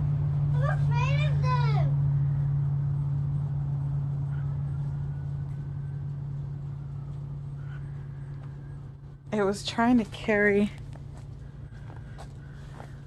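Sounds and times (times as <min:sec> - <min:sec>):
low mechanical hum: 0:00.0 - 0:13.0
low rumble: 0:00.0 - 0:13.0.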